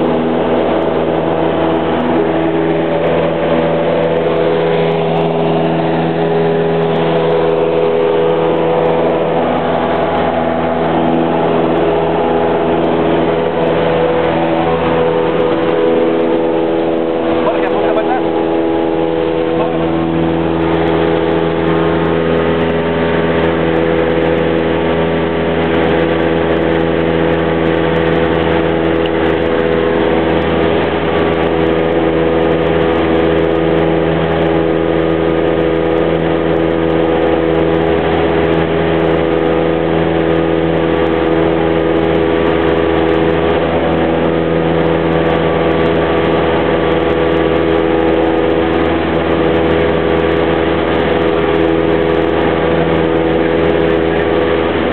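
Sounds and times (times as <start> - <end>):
plane engine and propeller drone: 0.0 - 54.9.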